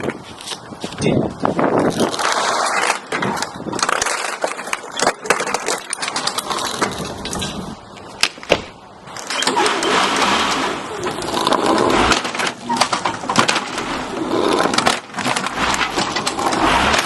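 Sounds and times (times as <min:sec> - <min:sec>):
lawnmower blade crunching plastic: 0:01.7 - 0:07.7, 0:09.1 - 0:17.0.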